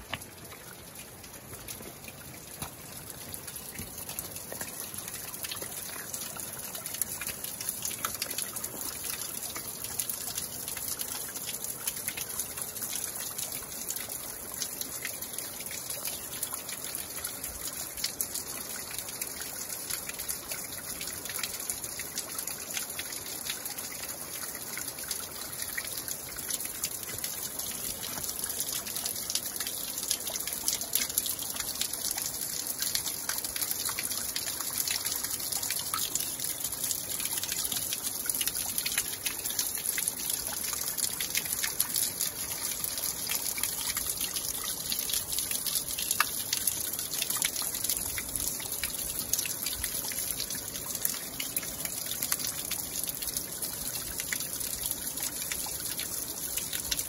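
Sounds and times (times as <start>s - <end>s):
water drips and splashes: 0.0s - 57.0s
water trickling: 0.0s - 57.0s.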